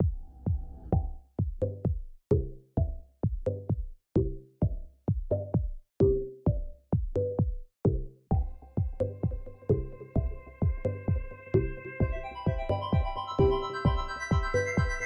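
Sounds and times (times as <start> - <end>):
electronic music with drum beat: 0.0 - 15.0.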